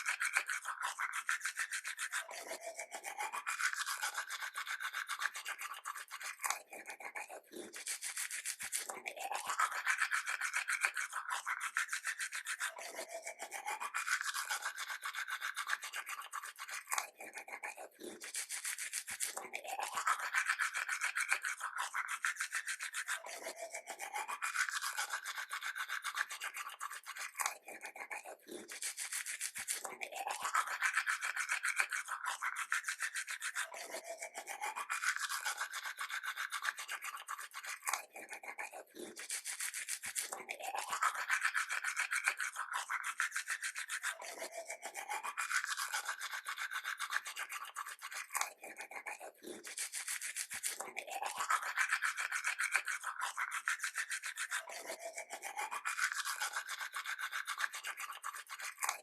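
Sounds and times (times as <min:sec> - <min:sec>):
toothbrush scrubbing teeth: 0:00.0 - 0:59.0.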